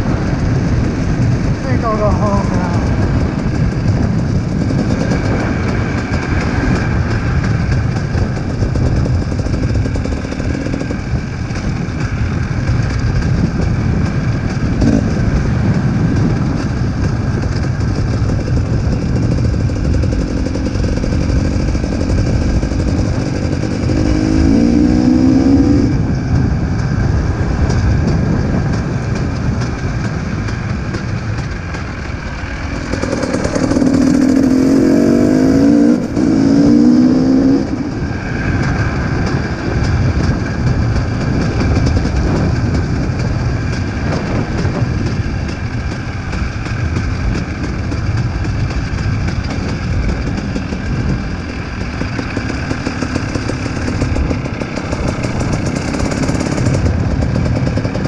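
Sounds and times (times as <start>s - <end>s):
dirt bike engine running: 0.0s - 58.0s.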